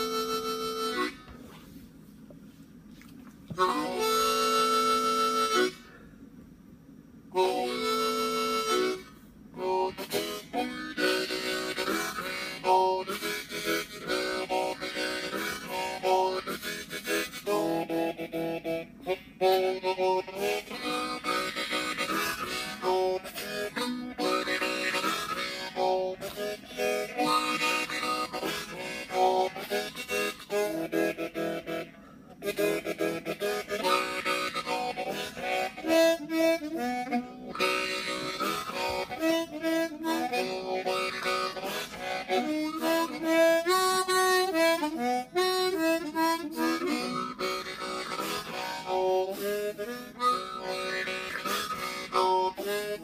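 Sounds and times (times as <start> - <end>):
harmonica playing: 0.0 - 1.6, 3.5 - 6.0, 7.3 - 53.0.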